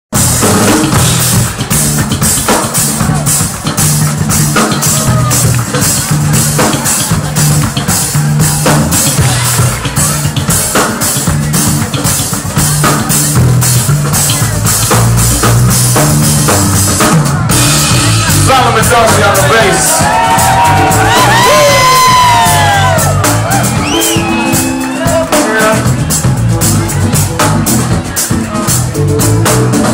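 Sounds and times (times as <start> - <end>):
drum kit steady beat: 0.1 - 29.9
electric bass line: 0.1 - 29.9.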